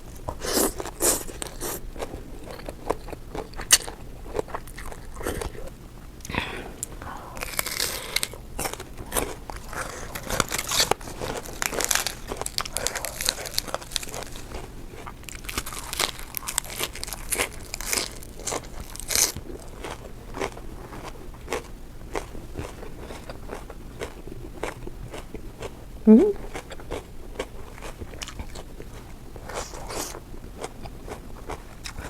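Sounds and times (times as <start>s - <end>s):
person chewing and crunching food: 0.0s - 32.0s.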